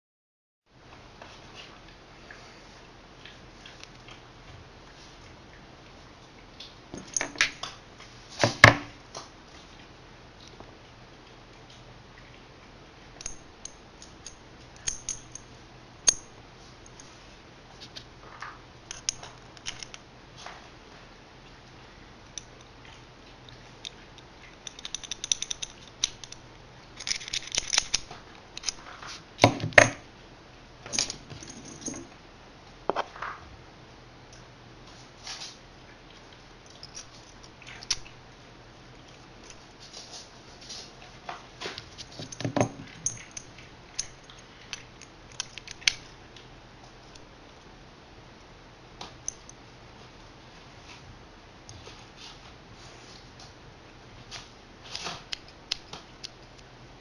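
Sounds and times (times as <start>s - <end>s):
low steady hum: 0.7s - 57.0s.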